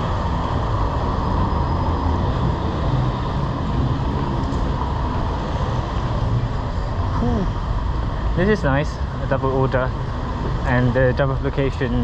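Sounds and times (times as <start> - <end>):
road noise: 0.0 - 12.0
rushing wind: 0.0 - 12.0.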